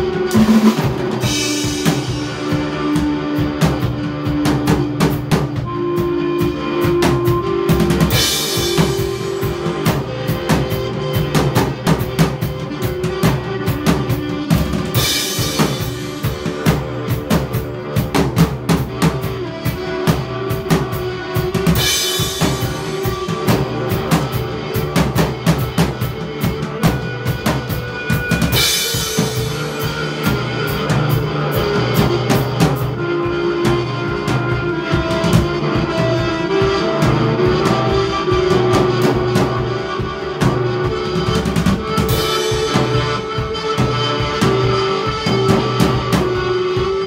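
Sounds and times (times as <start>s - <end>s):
drum kit playing: 0.0s - 47.0s
sustained electric guitar notes: 0.0s - 47.0s.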